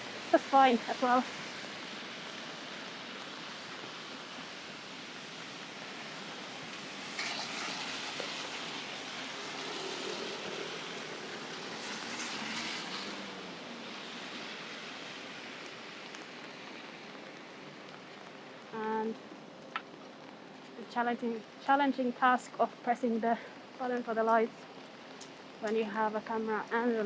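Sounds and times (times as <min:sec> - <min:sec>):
rain hissing on street: 0:00.0 - 0:27.0.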